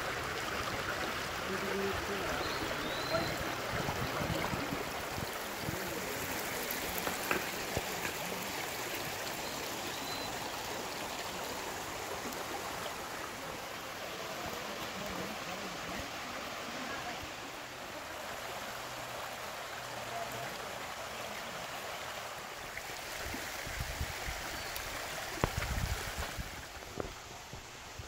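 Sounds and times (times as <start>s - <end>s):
stream flowing over rocks: 0.0s - 28.0s.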